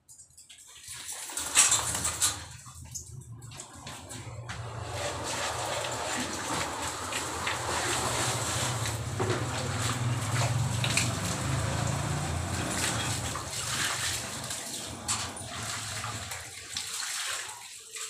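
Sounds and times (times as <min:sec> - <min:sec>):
water splashing on tiled floor: 0:00.1 - 0:18.0.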